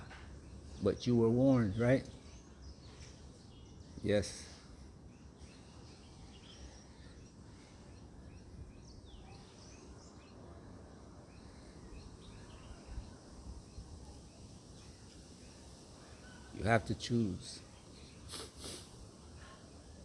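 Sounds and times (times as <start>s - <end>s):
distant bird chirps: 0.0s - 20.0s
low background noise: 0.0s - 20.0s.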